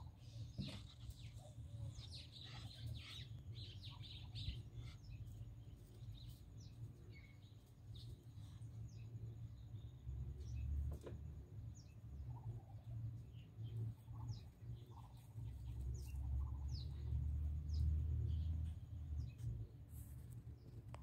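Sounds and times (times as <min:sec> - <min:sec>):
soft bird calls: 0:00.0 - 0:21.0.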